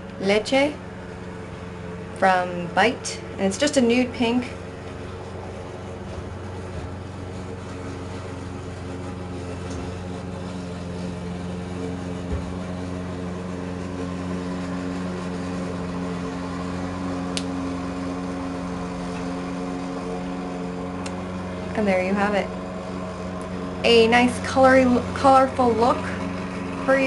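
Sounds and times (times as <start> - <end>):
appliance mechanical hum: 0.0 - 27.0.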